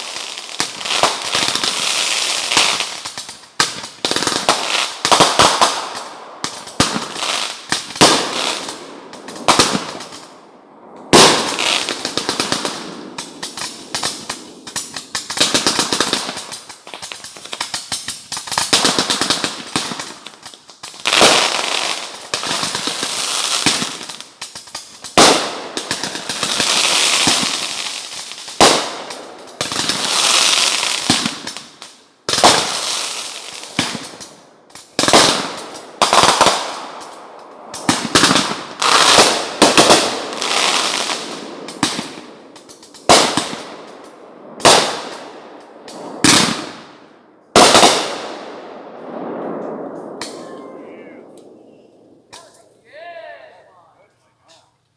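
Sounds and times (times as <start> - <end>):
fireworks bangs: 0.0 - 54.8
fireworks crackling: 0.0 - 54.9.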